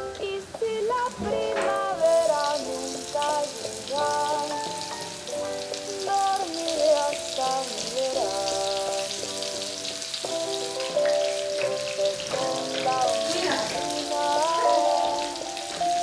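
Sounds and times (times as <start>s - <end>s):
background music: 0.0s - 16.0s
chicken deep-frying in oil: 1.9s - 16.0s.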